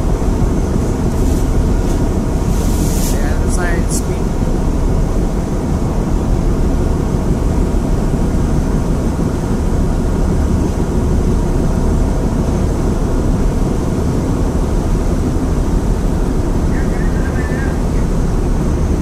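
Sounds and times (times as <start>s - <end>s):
boat engine drone: 0.0s - 19.0s
water rushing along hull: 0.0s - 19.0s.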